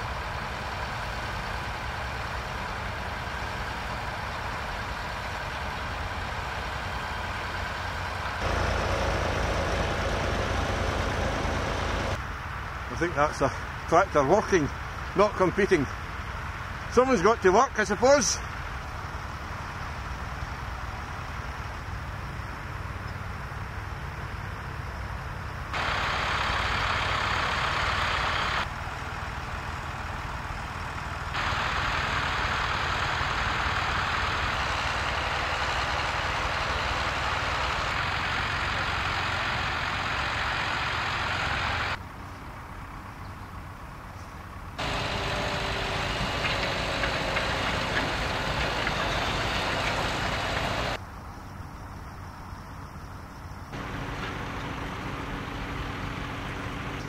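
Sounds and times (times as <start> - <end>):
tractor engine running: 0.0 - 51.0, 53.6 - 57.0.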